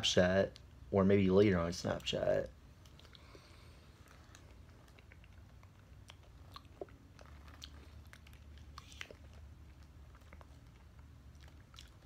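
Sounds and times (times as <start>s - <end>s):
faint low hum: 0.0s - 12.0s
wet chewing and lip smacks: 1.9s - 12.0s.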